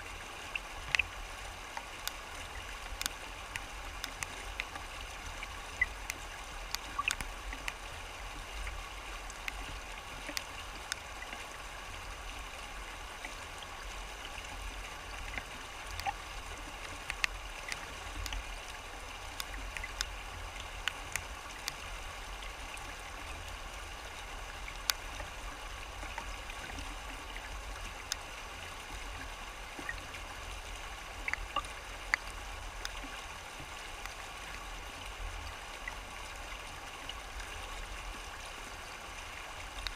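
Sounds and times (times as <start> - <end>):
water splashing: 0.0 - 39.9.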